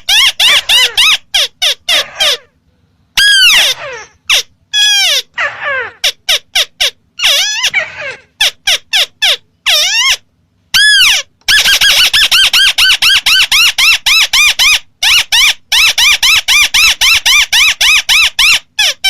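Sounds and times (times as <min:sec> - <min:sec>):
recorded bird call: 0:00.0 - 0:19.0.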